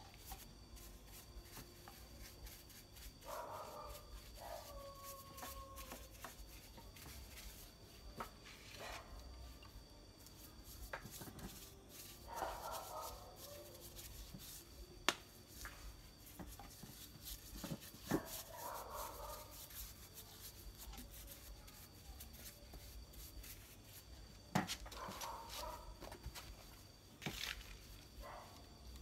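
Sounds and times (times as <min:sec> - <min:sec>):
brush rubbing polish on wood: 0:00.0 - 0:24.3, 0:24.9 - 0:26.0.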